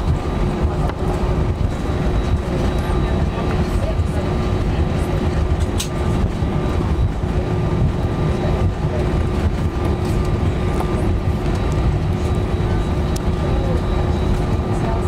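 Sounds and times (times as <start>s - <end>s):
aircraft cabin rumble: 0.0s - 15.0s
constant hum: 0.0s - 15.0s.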